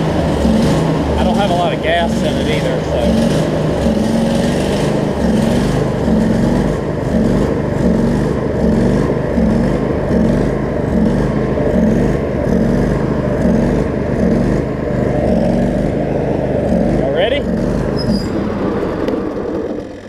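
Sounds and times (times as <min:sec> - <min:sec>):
riding mower engine running: 0:00.0 - 0:20.0.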